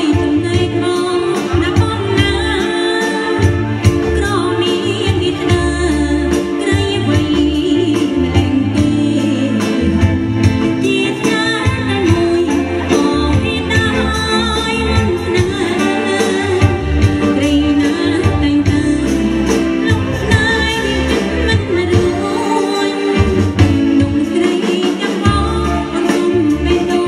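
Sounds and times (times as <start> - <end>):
band with electronic keyboards: 0.0 - 27.0
bass: 0.0 - 27.0
steady drum beat: 0.0 - 27.0
woman singing into a microphone: 0.0 - 27.0.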